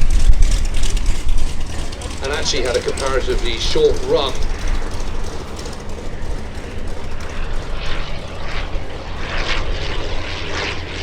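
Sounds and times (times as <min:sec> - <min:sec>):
propeller aircraft engines droning: 0:00.0 - 0:11.0.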